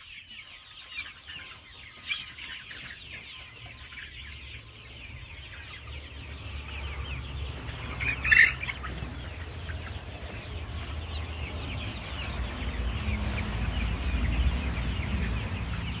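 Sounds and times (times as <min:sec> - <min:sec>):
chickens clucking: 0:00.0 - 0:16.0
chicken squawk: 0:00.6 - 0:16.0.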